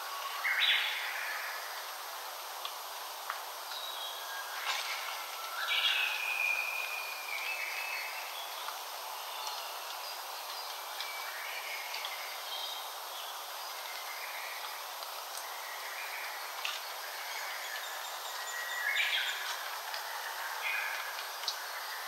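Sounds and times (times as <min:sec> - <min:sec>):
steady soft hiss: 0:00.0 - 0:22.0
songbirds singing and calling: 0:03.7 - 0:22.0.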